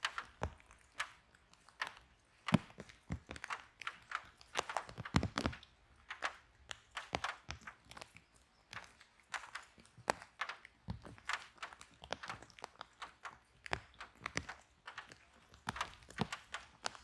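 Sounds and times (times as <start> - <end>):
wood fire crackling: 0.0 - 7.6, 9.4 - 17.0.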